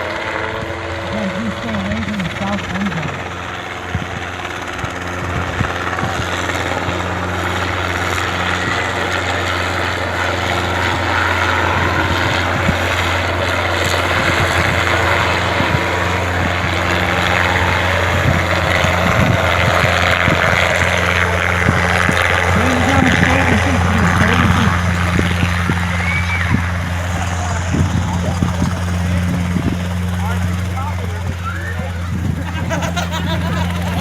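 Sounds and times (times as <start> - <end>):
helicopter rotor and engine: 0.0 - 34.0.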